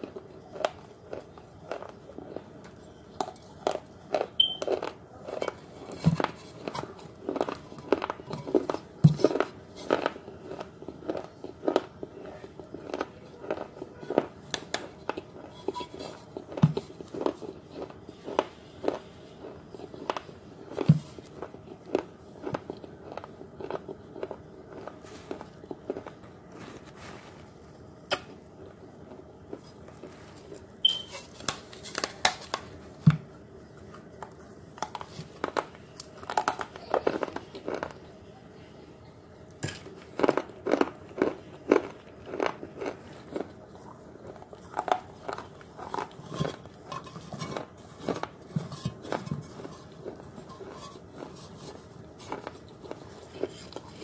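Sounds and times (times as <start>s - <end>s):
crunching and chewing: 0.0s - 38.3s, 39.4s - 54.0s.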